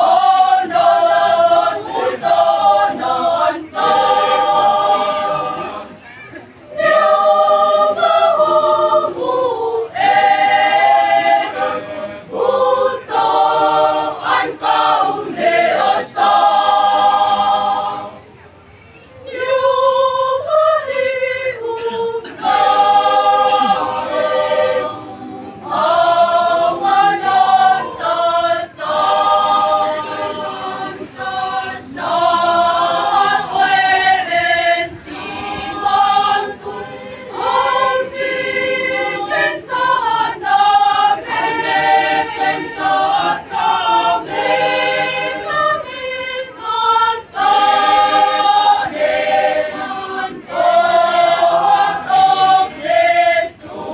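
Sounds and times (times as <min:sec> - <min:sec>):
choir singing: 0:00.0 - 0:06.0, 0:06.7 - 0:18.5, 0:19.2 - 0:53.9.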